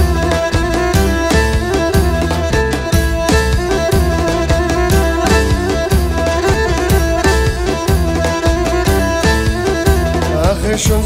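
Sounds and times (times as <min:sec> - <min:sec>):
bass: 0:00.0 - 0:11.0
bowed string melody: 0:00.0 - 0:11.0
steady drum beat: 0:00.0 - 0:11.0.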